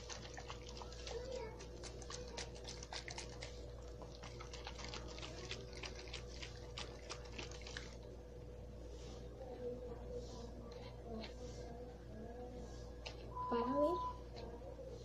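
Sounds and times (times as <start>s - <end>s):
faint liquid sound: 0.0s - 13.3s
faint steady hum: 0.0s - 15.0s.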